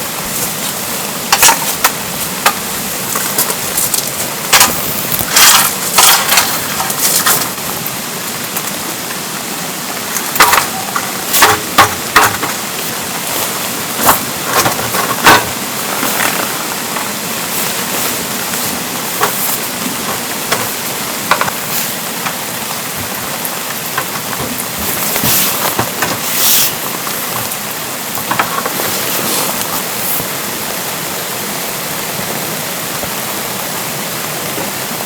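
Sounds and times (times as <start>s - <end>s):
heavy raindrops tapping: 0.0s - 35.0s
steady rain: 0.0s - 35.0s.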